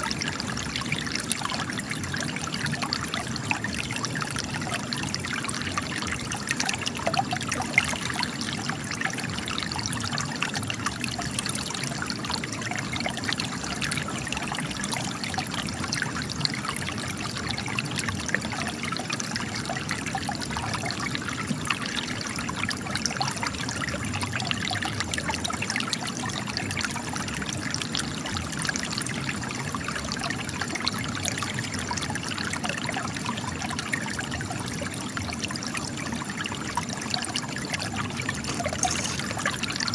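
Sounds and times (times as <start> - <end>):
spring water trickling over rock: 0.0 - 39.9.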